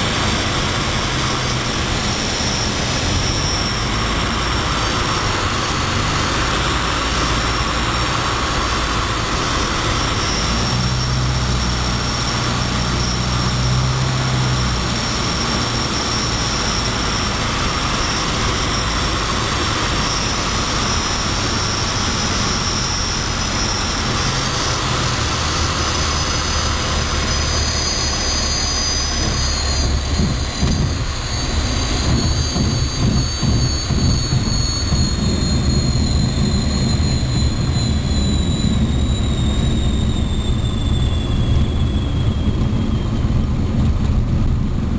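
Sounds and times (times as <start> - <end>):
airflow noise: 0.0 - 44.9
propeller engine droning: 0.0 - 44.9.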